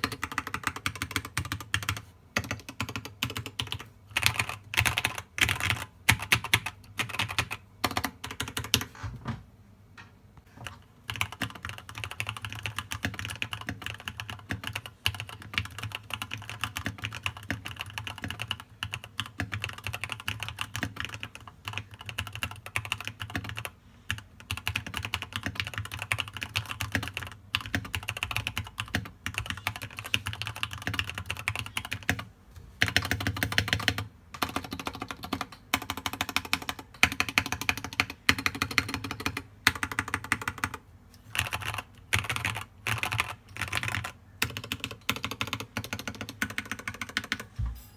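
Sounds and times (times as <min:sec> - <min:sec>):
fast typing on keyboard: 0:00.0 - 0:08.9, 0:10.6 - 0:47.6.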